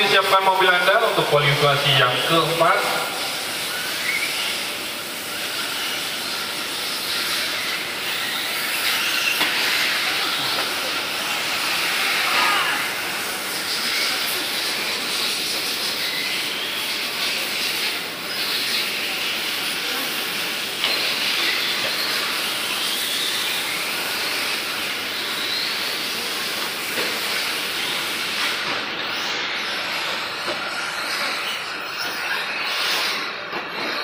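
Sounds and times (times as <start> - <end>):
hiss of motors and tyres: 1.2 - 33.4.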